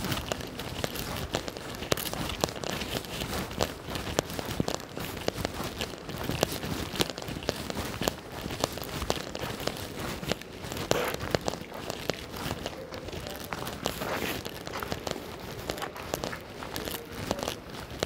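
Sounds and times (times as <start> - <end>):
footsteps in wet slush: 0.0 - 18.0.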